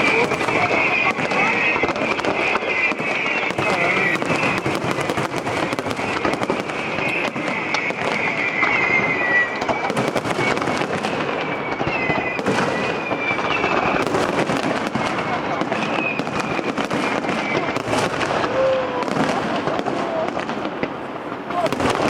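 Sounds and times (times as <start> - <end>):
high whistle-like tone: 0.0 - 5.1, 5.7 - 18.8
crackling pops: 0.0 - 22.0.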